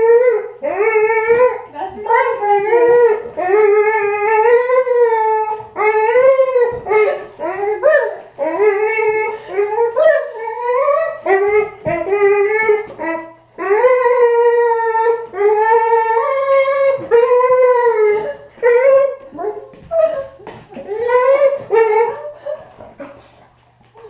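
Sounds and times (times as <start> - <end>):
dog whining and howling: 0.0 - 23.4.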